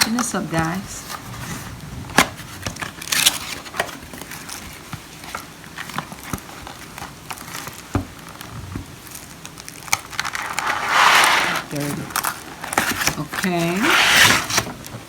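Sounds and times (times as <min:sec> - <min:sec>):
cardboard packaging rustling: 0:00.0 - 0:15.0.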